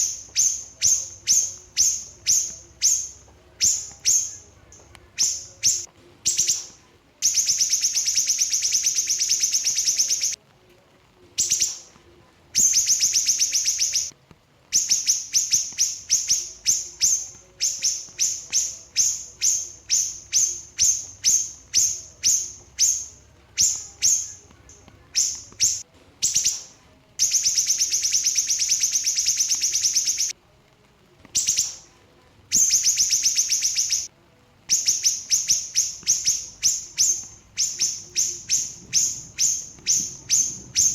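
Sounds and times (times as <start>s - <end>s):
songbird trilling: 0.0s - 10.4s, 12.6s - 14.1s, 14.8s - 30.3s, 32.5s - 34.1s, 34.7s - 40.9s.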